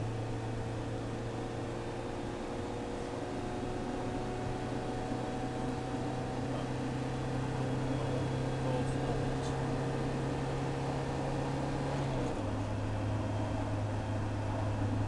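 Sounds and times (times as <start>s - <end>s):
road and wind noise: 0.0s - 15.0s
van engine humming: 0.0s - 15.0s.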